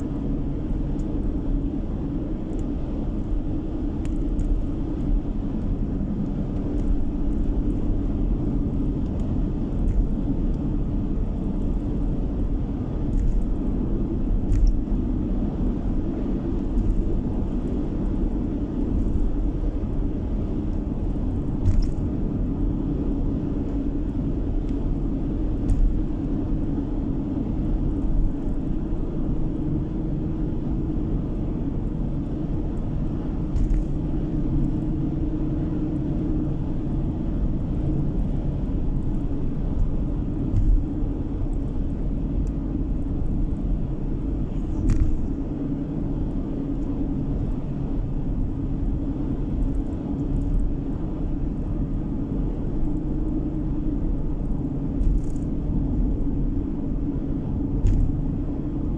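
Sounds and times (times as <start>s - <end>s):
car road and engine noise: 0.0s - 58.9s.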